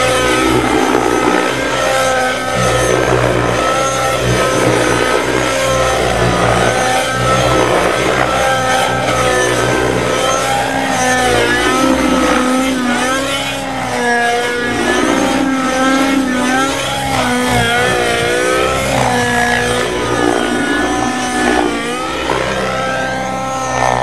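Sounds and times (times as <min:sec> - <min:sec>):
model helicopter engine running: 0:00.0 - 0:24.0.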